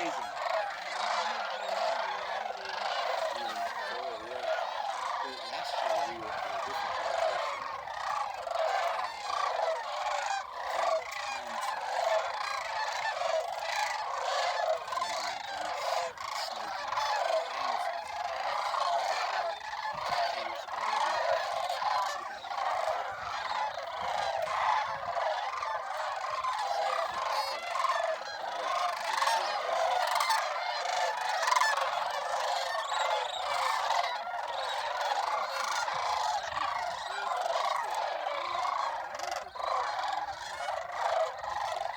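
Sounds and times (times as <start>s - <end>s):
geese and cranes calling: 0.0s - 41.9s.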